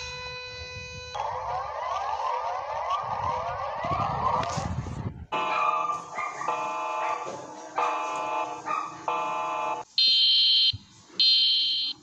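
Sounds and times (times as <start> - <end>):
siren alarm: 0.0 - 4.5, 5.3 - 12.0.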